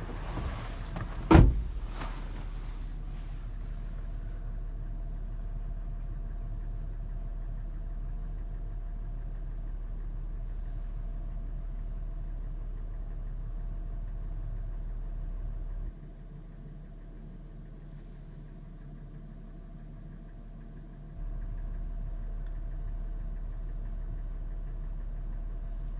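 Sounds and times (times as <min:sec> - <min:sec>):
engine idling with clattering tapping: 0:00.0 - 0:25.9.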